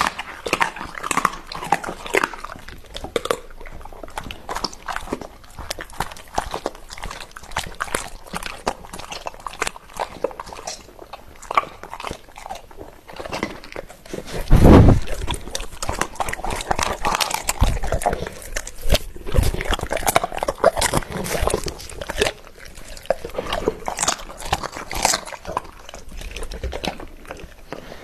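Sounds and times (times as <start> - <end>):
bones crunching: 0.0 - 28.0
dog chewing wetly: 0.0 - 28.0.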